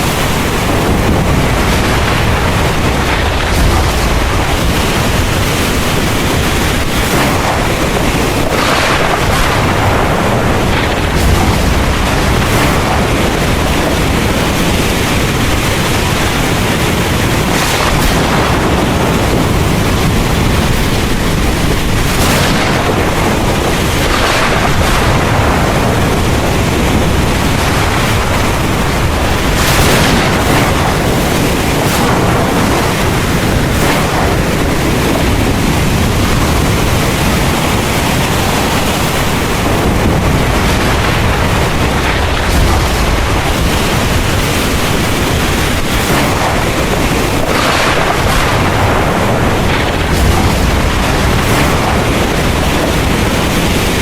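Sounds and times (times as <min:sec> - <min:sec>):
heavy rain pouring: 0:00.0 - 0:54.0
low rumble of thunder: 0:00.0 - 0:54.0.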